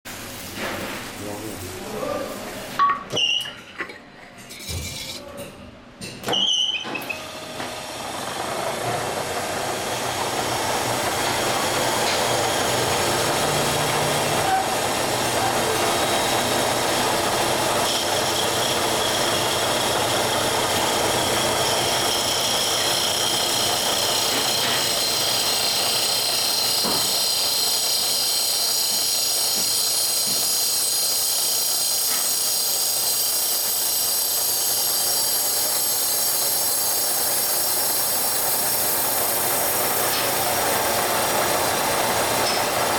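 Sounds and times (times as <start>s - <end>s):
factory machinery running: 4.6s - 42.9s.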